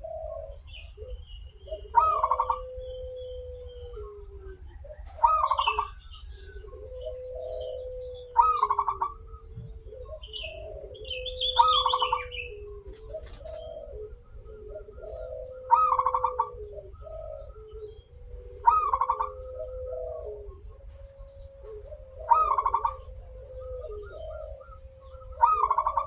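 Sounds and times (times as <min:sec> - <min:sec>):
dove cooing: 0:00.0 - 0:26.0
dove pulsed call: 0:00.0 - 0:26.0.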